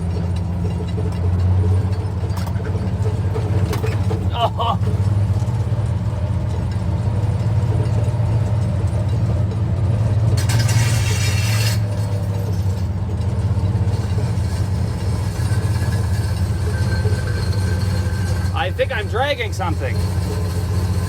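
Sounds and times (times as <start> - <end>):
truck engine droning: 0.0 - 21.0.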